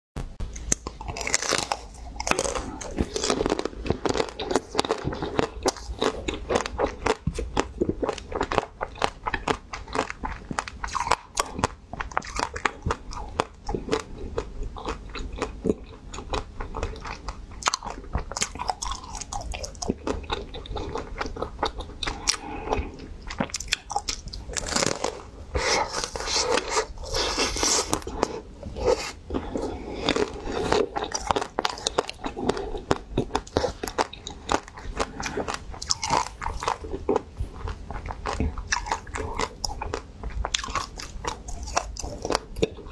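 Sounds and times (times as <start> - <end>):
chewing: 0.5 - 42.9
ice cream coating crunching: 0.6 - 22.5, 23.3 - 42.9.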